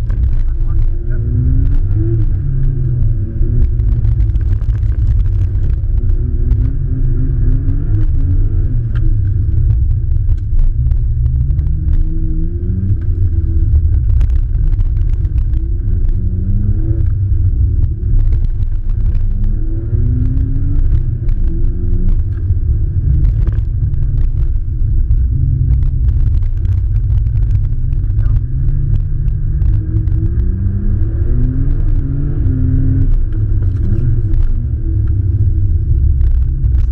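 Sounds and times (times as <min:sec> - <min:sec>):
muffled car engine revving: 0:00.0 - 0:36.9.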